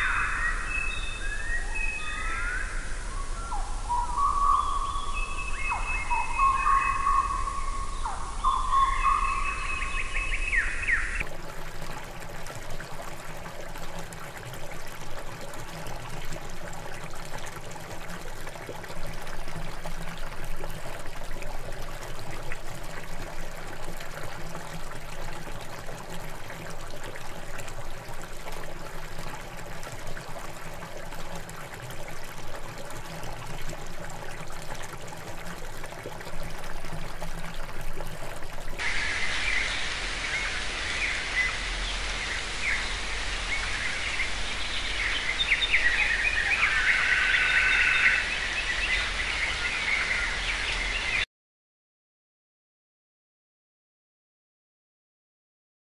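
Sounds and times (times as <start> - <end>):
water trickling: 0.0 - 2.6, 3.9 - 51.2.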